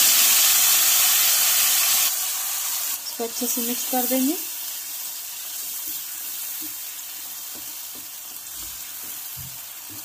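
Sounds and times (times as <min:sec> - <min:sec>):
masala paste sizzling in oil: 0:00.0 - 0:10.0.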